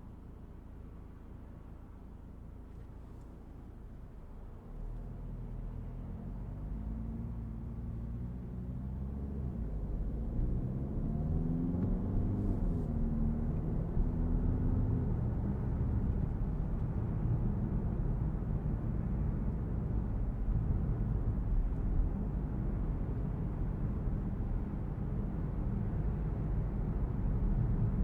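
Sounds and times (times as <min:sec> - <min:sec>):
low road rumble: 0:00.0 - 0:28.0.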